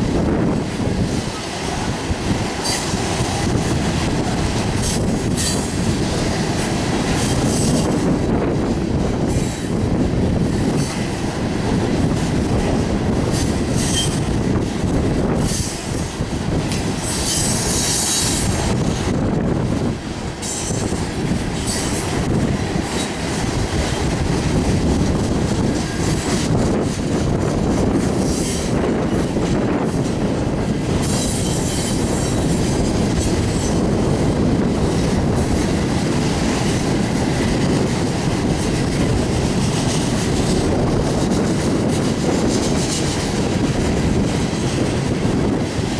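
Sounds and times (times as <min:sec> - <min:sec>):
train cars rumbling on rails: 0:00.0 - 0:45.9.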